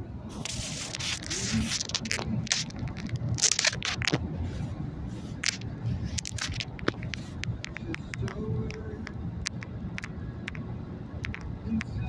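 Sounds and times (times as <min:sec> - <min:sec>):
road rumble inside car: 0:00.0 - 0:12.0
clicks and crackles: 0:00.4 - 0:04.3, 0:05.4 - 0:12.0.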